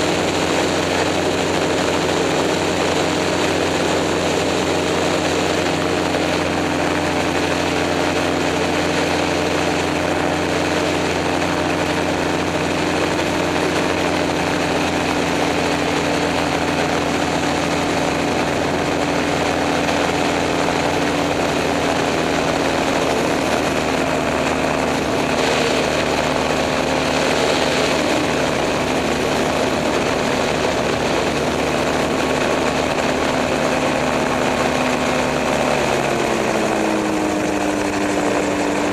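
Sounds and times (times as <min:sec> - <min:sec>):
aircraft engine and propeller: 0:00.0 - 0:38.9.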